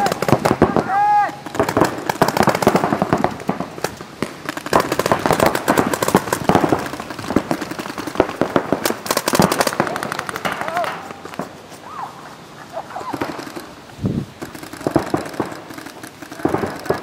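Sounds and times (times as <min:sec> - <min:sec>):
paintball markers firing: 0:00.0 - 0:11.5, 0:13.1 - 0:17.0.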